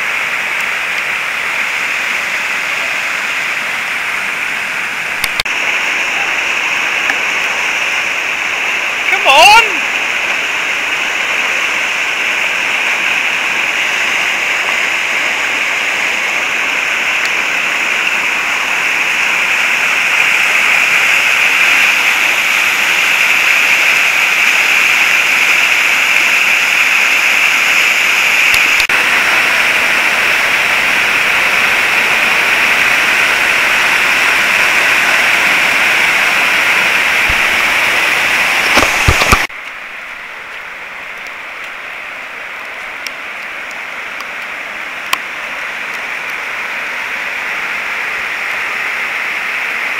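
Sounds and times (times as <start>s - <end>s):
waterfall pouring into pool: 0.0s - 49.9s
whitewater rapids rushing: 0.0s - 49.9s.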